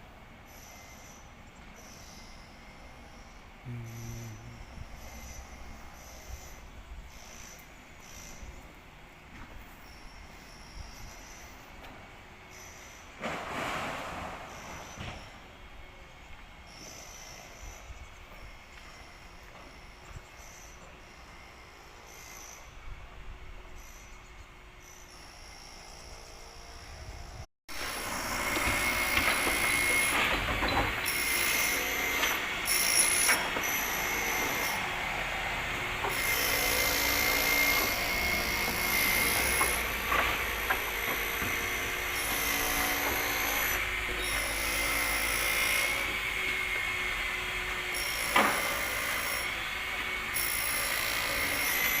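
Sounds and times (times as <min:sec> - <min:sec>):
machinery and power tools running: 0:00.0 - 0:52.0.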